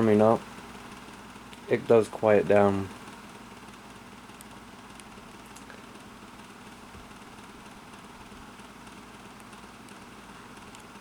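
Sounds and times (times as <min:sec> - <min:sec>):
table fan running: 0:00.0 - 0:11.0.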